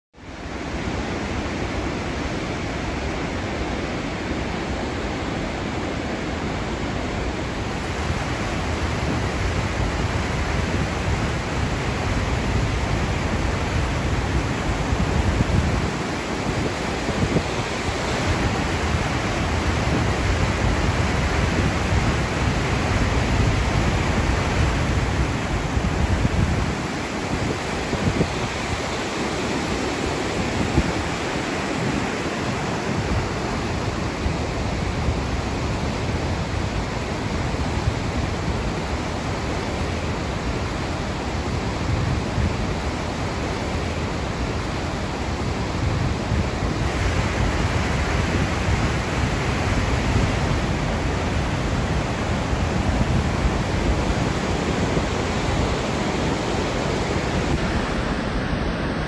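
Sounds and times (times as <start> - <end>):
river rapids and waterfall roaring: 0.2 - 59.0.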